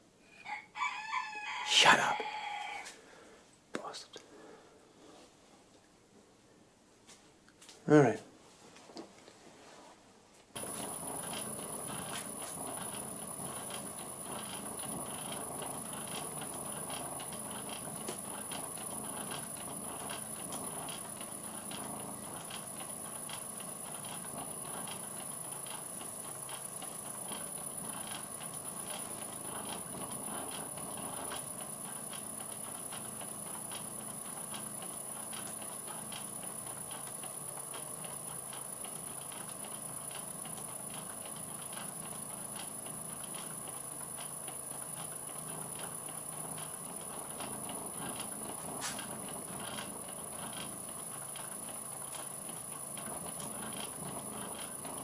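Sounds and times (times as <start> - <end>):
thin high whine: 0.0 - 3.0, 10.6 - 55.0
metal lathe whirring: 10.6 - 55.0
rapid light clicks: 10.6 - 55.0.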